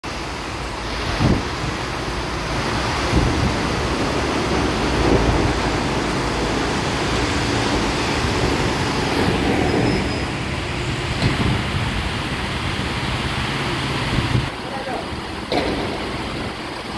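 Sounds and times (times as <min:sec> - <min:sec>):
truck road and engine noise: 0:00.0 - 0:16.9.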